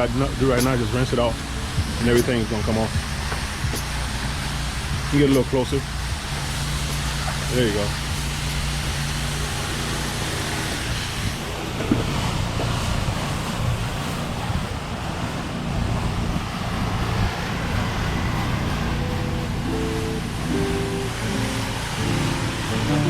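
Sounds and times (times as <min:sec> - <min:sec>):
pressure washer spraying water: 0:00.0 - 0:23.0.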